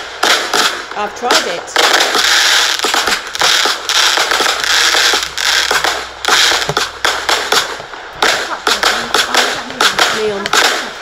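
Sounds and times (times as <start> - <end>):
fireworks bursting with crackle: 0.0 - 11.0.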